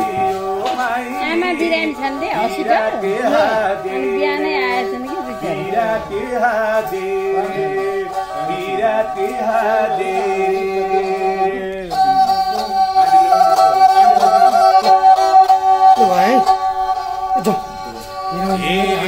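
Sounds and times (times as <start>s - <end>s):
man singing folk song: 0.0s - 15.1s, 17.6s - 19.0s
bowed sarangi: 0.0s - 19.0s.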